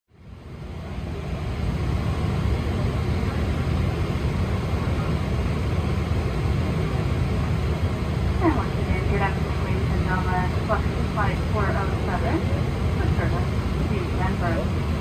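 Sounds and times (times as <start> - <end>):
aircraft cabin ventilation hum: 0.1 - 15.0.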